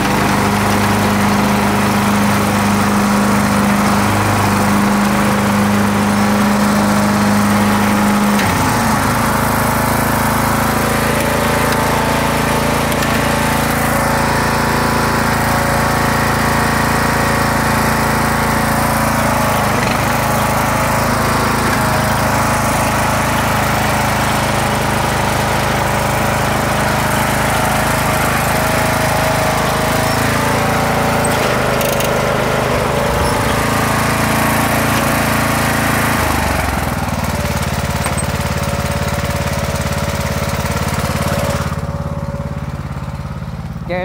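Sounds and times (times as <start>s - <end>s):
riding lawn mower engine: 0.0s - 44.0s.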